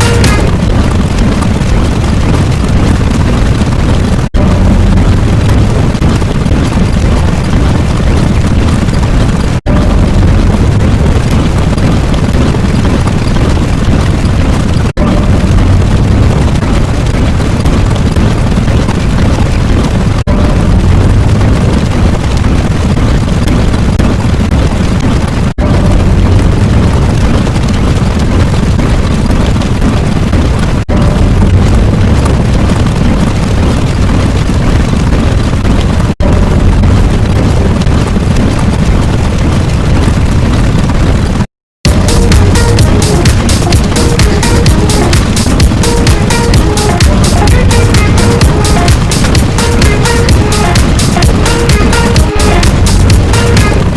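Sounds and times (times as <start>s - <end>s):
explosion-like rumble: 0.0s - 53.9s.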